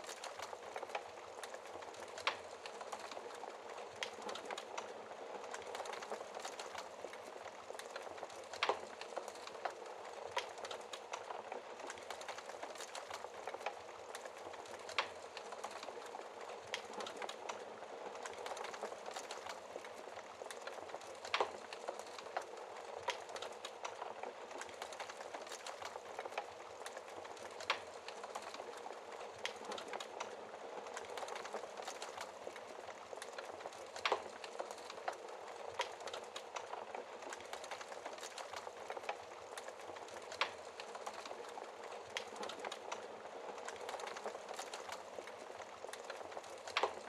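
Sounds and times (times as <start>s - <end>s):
fire crackling: 0.0s - 47.0s.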